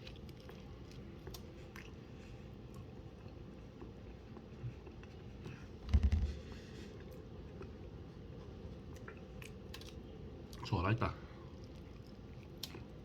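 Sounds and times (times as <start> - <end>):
handling and eating noises: 0.0 - 13.0.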